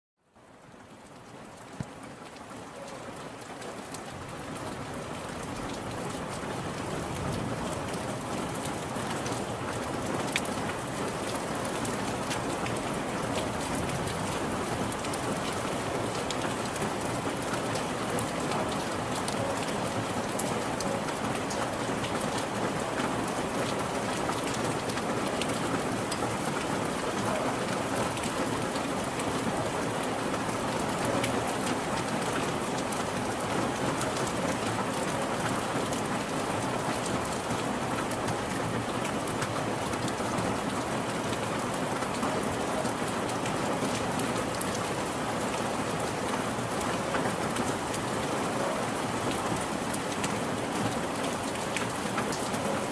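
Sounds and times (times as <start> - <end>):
steady rain falling: 0.2 - 52.9
raindrops pattering on a surface: 0.3 - 52.9.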